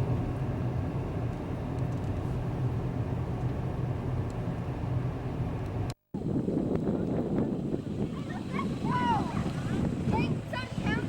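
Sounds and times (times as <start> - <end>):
engine running: 0.0 - 11.0
road or water noise: 0.0 - 11.0.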